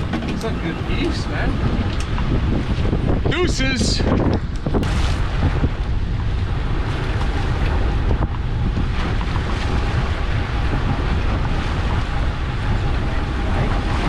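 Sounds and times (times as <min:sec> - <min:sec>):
ocean wash: 0:00.0 - 0:14.0
wind rumbling on microphone: 0:00.0 - 0:14.0.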